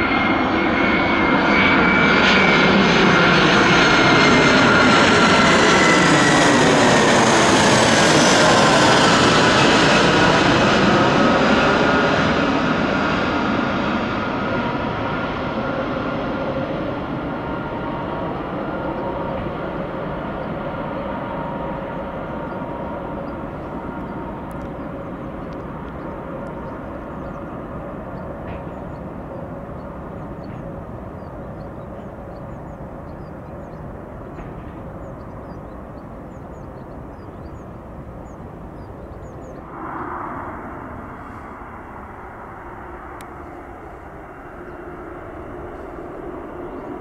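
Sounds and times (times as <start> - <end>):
jet airliner engine noise: 0.0 - 47.0.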